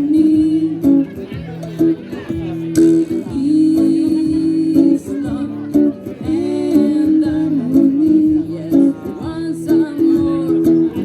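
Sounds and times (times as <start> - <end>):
person singing: 0.0 - 1.3, 2.8 - 11.0
plucked guitar: 0.0 - 11.0.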